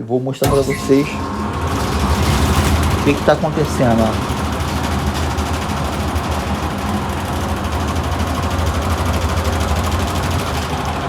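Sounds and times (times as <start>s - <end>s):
blower low rumble: 0.4s - 11.0s.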